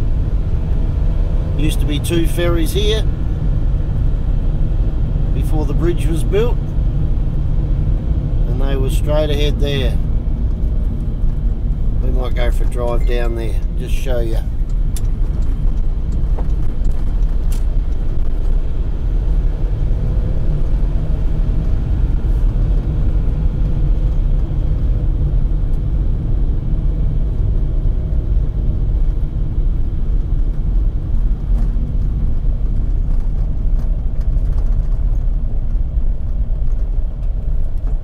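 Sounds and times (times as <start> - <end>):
car engine: 0.0 - 38.0
tyre noise on road: 0.0 - 38.0.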